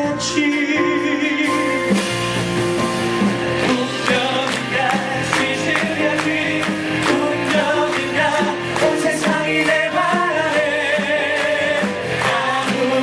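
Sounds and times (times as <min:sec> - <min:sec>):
band playing musical song: 0:00.0 - 0:13.0.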